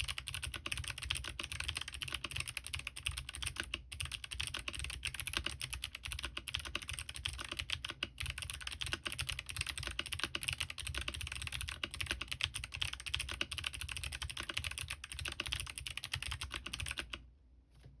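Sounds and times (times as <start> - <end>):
fast typing on clicky keyboard: 0.0 - 17.2.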